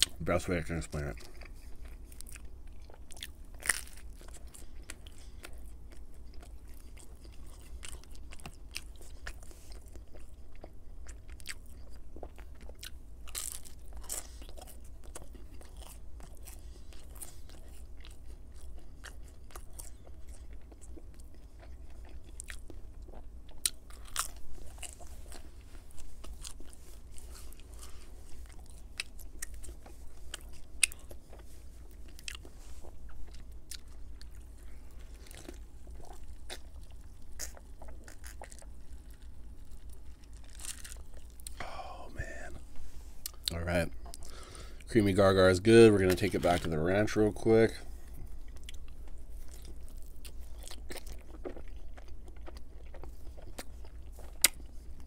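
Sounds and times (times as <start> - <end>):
chewing and biting pizza: 0.0 - 55.0.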